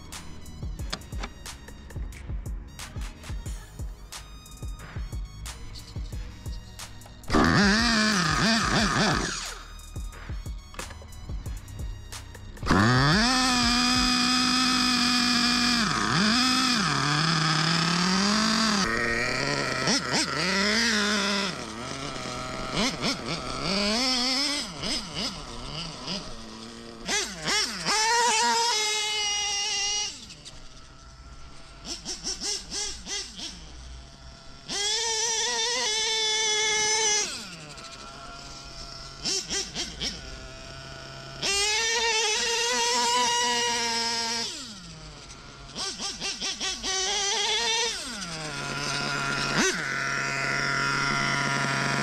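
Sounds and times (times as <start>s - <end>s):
small engine idling: 0.0s - 52.0s
model truck engine screaming: 7.2s - 9.8s, 12.6s - 52.0s.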